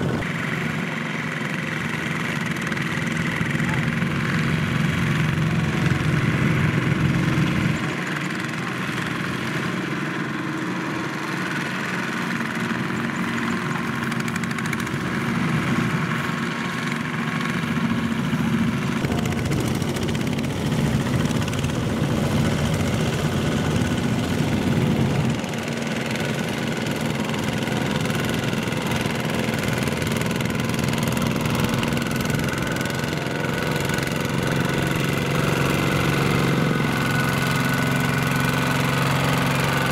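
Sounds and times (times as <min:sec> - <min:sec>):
diesel tractor engines running: 0:00.0 - 0:39.9.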